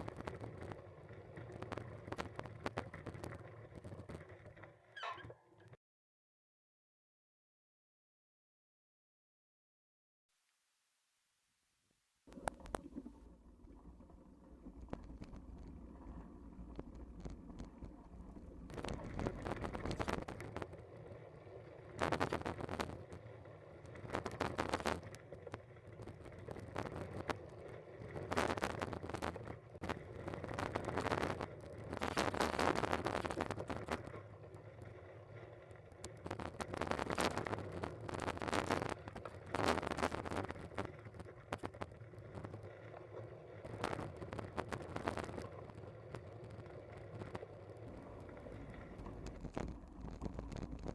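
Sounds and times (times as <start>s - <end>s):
low rolling rumble of bicycle: 0.0s - 5.8s, 12.3s - 50.9s.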